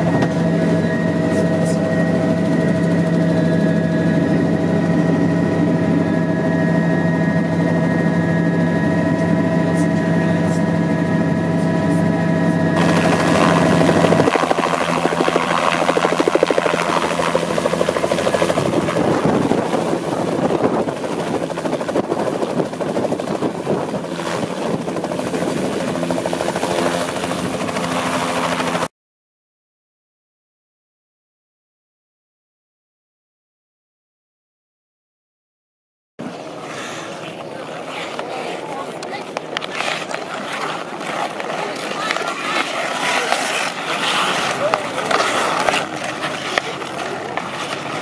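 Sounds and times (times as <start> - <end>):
helicopter engine whine and rotor hum: 0.0 - 28.9, 36.2 - 48.0
helicopter rotor beating: 0.0 - 28.9, 36.2 - 48.0.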